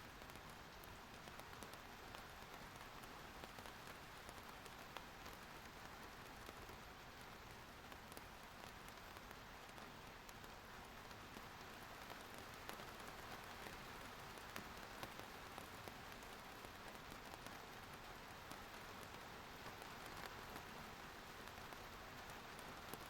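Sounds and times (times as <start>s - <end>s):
faint steady rain: 0.0s - 23.0s.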